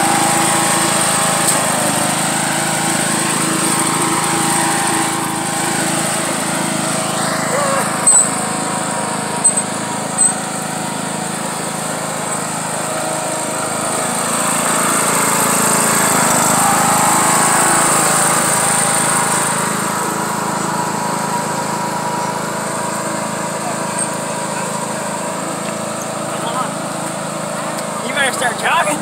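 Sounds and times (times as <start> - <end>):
riding lawn mower engine: 0.0 - 29.0.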